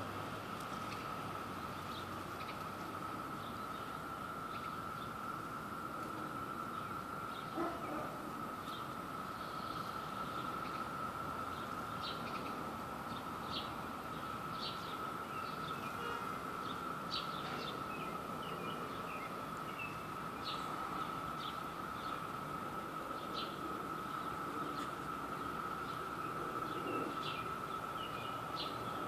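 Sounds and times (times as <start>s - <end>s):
cicadas droning: 0.0s - 29.0s.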